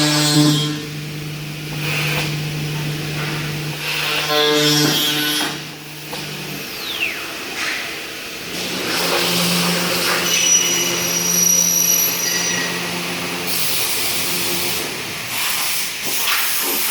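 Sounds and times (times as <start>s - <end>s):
machine hum with spindle whine: 0.0s - 16.2s.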